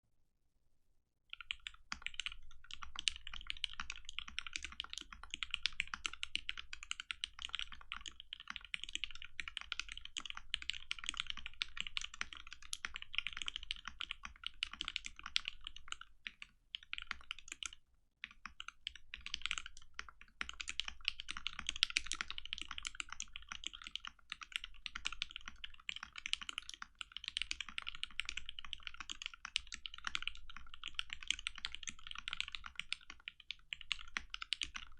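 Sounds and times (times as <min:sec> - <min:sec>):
fast typing on mechanical keyboard: 0:01.3 - 0:34.9.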